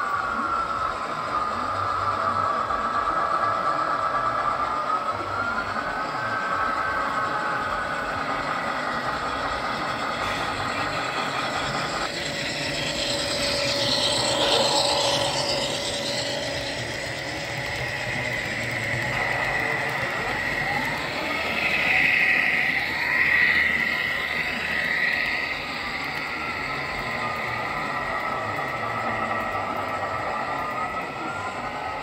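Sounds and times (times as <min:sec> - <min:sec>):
turntable motor whine and hum: 0:00.0 - 0:32.0.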